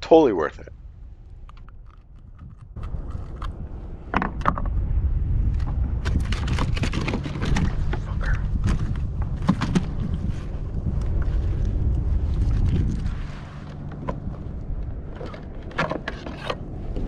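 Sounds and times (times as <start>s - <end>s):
rumbling wind: 0.0s - 17.0s.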